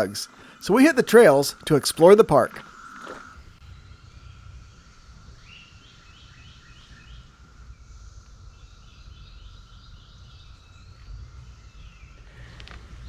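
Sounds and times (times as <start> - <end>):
cicada chorus drone: 0.0 - 12.0.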